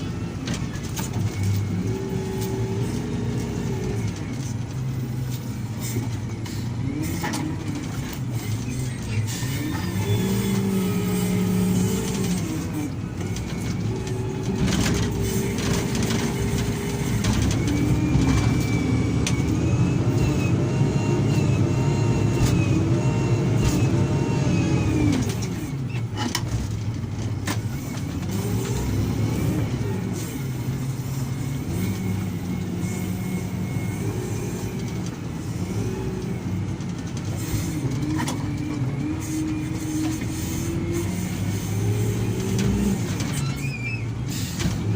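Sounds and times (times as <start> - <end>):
diesel engine revving under load: 0.0 - 44.9.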